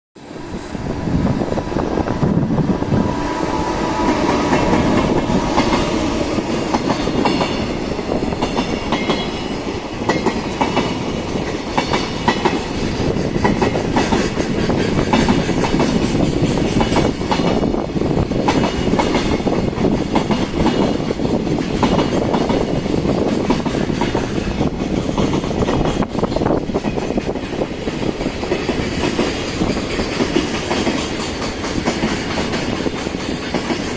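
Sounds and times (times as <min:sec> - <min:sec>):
freight train rumble: 0:00.2 - 0:33.9
wheels clacking over rail joints: 0:03.3 - 0:33.9.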